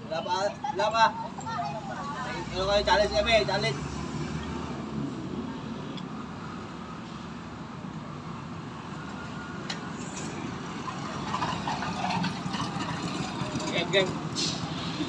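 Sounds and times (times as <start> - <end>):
vehicle engine rumble: 1.3 - 15.0.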